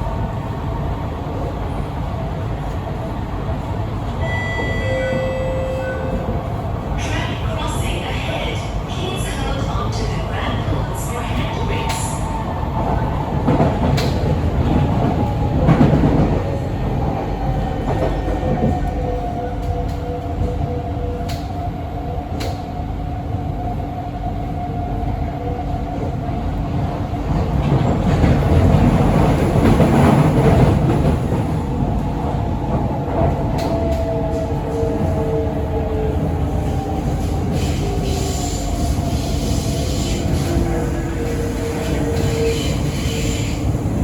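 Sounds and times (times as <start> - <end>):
train wheel and rail rumble: 0.0 - 44.0.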